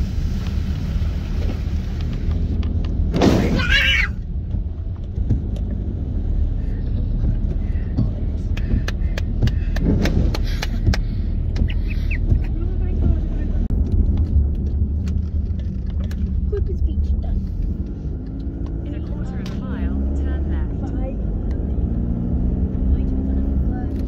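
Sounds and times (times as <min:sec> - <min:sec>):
tyres and engine rumbling: 0:00.0 - 0:24.0.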